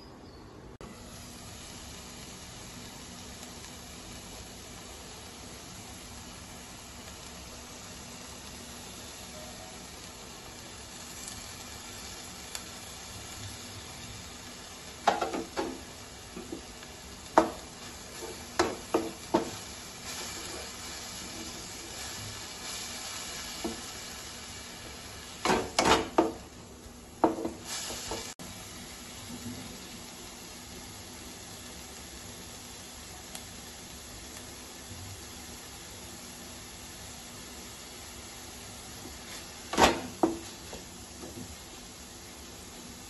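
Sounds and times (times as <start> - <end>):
greens sizzling in wok: 0.8 - 43.0.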